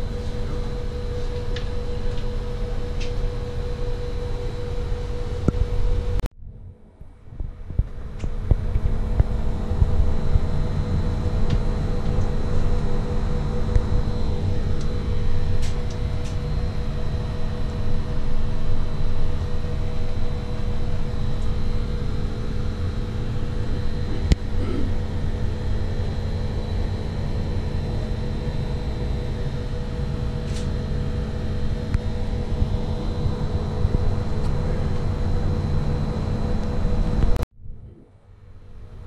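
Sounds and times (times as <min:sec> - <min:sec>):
ship machinery hum: 0:00.0 - 0:39.0.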